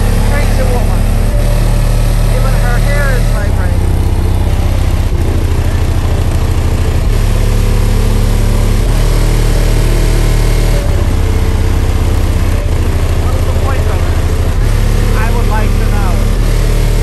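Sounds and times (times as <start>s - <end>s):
subwoofer bass throbbing: 0.0s - 17.0s.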